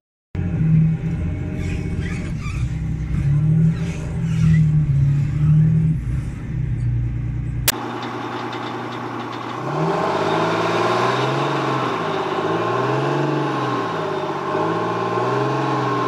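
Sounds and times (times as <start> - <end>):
diesel engine droning: 0.4 - 16.0.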